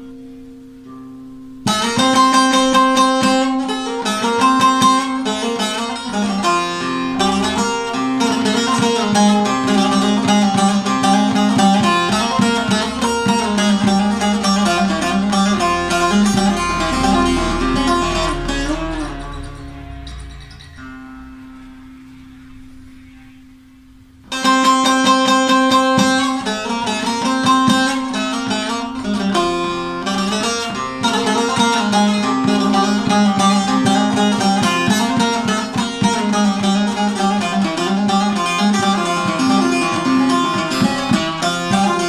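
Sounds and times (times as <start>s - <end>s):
plucked lute melody: 0.0s - 42.0s.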